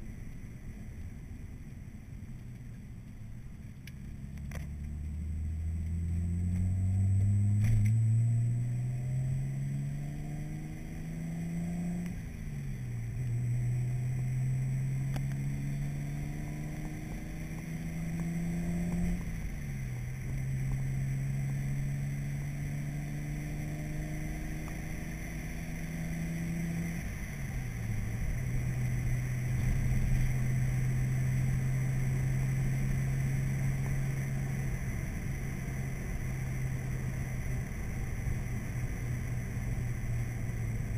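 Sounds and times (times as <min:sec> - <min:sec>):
tyre and road noise: 0:00.0 - 0:40.9
car engine accelerating: 0:03.6 - 0:40.9.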